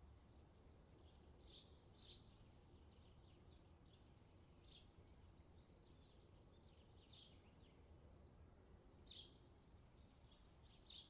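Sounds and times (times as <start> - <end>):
small birds chirping: 0.3 - 7.9, 9.0 - 11.0.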